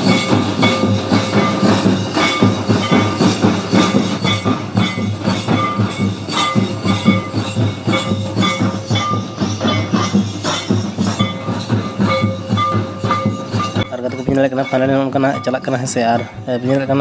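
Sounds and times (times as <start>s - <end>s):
barrel drums played by hand: 0.0s - 17.0s.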